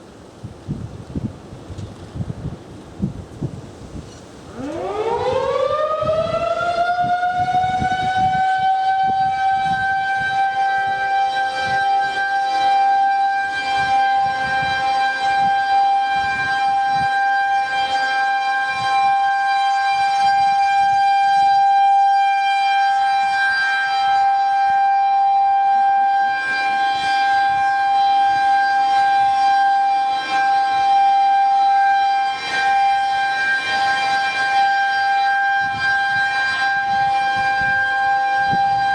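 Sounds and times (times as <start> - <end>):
tornado siren winding up: 4.1 - 38.9.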